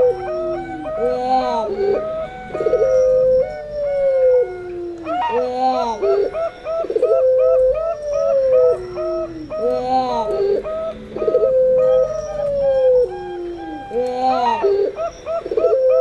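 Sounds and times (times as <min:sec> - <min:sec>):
doves long drawn coos: 0:00.0 - 0:16.0
doves quick choppy cooing: 0:00.0 - 0:16.0.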